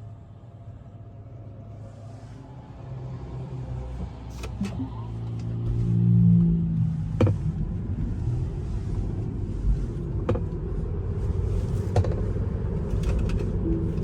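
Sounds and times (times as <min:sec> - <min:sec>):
low hum: 0:00.0 - 0:14.0
road and tyre noise in car: 0:00.0 - 0:14.0.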